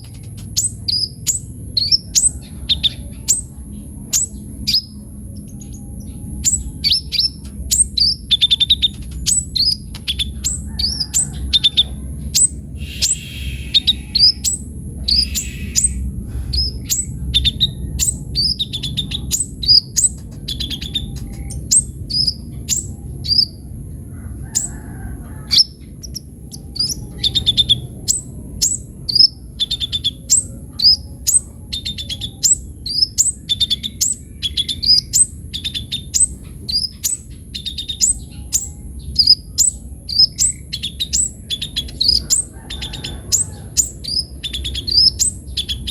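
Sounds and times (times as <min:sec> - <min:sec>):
sunbird singing high chirps: 0:00.0 - 0:45.9.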